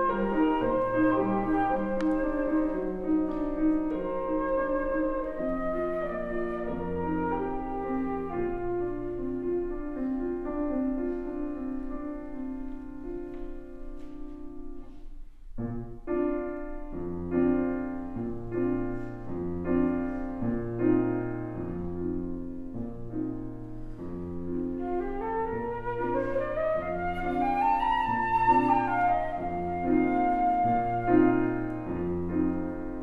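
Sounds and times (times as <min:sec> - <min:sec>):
grand piano playing chords: 0:00.0 - 0:33.0.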